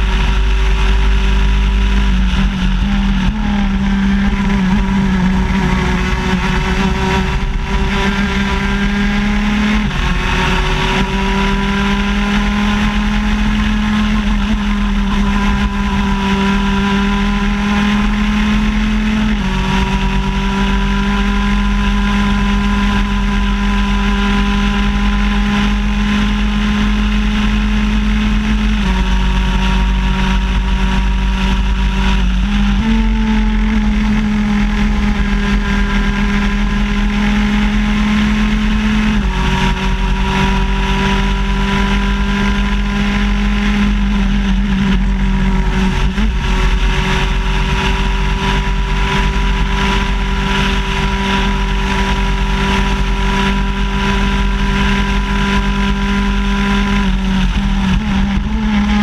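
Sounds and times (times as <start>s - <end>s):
kart engine at high revs: 0.0s - 59.0s.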